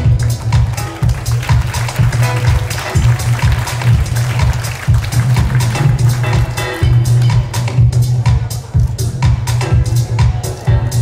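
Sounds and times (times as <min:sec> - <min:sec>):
bass-heavy dance music: 0:00.0 - 0:11.0.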